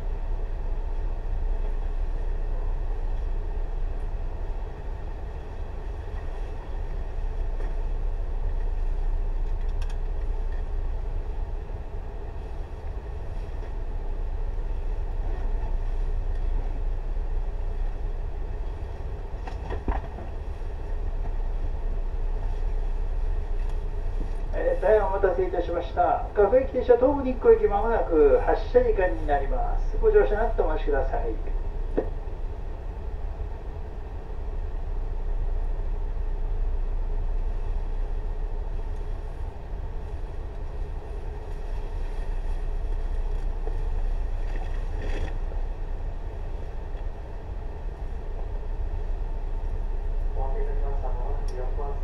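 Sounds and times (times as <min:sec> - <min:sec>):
train equipment humming: 0:00.0 - 0:52.0.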